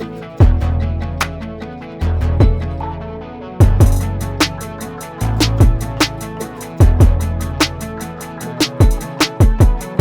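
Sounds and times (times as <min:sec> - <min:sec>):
electronic drum beat: 0:00.0 - 0:01.5, 0:02.4 - 0:02.8, 0:03.6 - 0:10.0
held bass and chords: 0:00.0 - 0:10.0.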